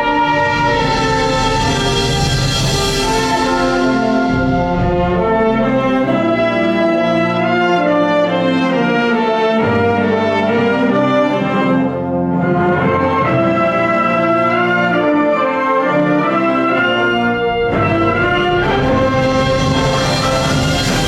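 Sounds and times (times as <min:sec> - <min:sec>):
wind band playing brass chords: 0:00.0 - 0:21.0.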